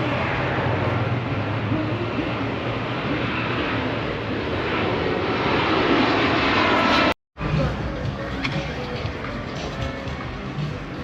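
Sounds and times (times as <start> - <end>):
aeroplane roaring overhead: 0.0 - 11.0.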